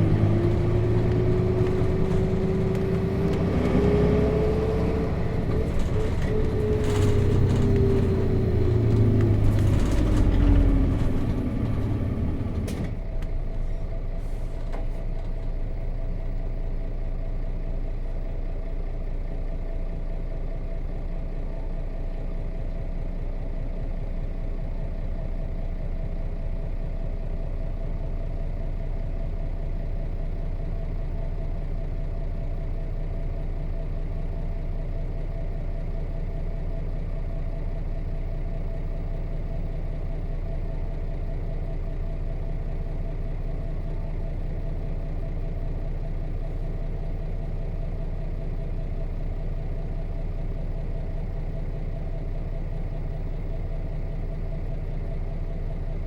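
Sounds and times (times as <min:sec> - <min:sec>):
diesel bus engine humming: 0:00.0 - 0:56.0.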